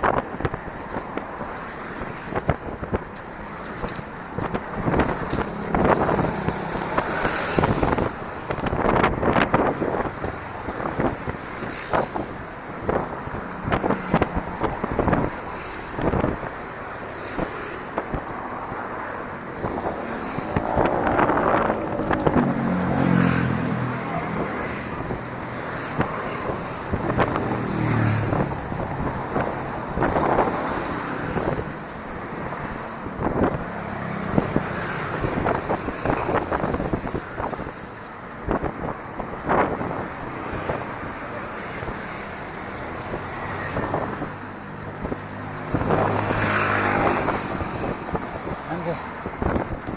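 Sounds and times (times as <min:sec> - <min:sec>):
bicycle rattling and knocking: 0:00.0 - 0:49.9
wind on microphone: 0:00.0 - 0:49.9.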